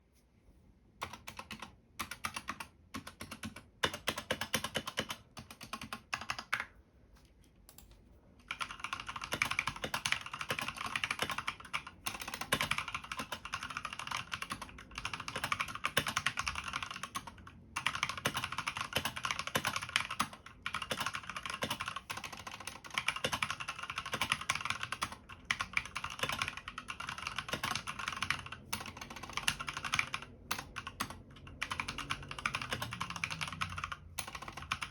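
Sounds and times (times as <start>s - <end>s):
mechanical keyboard typing: 1.0s - 6.7s, 7.7s - 34.9s.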